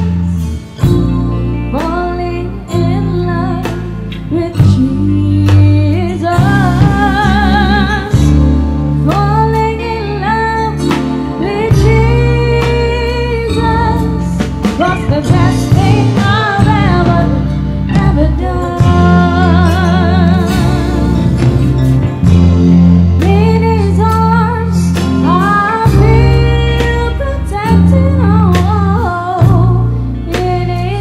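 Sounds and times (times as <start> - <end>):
woman singing: 0.0 - 21.4, 23.2 - 31.0
live band playing: 0.0 - 31.0.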